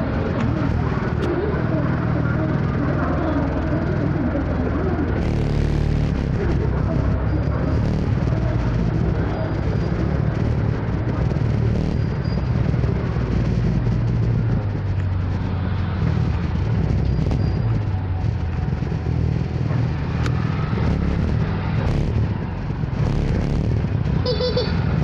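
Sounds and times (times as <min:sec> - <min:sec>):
scooter engine running: 0:00.0 - 0:25.0
traffic noise: 0:00.0 - 0:25.0.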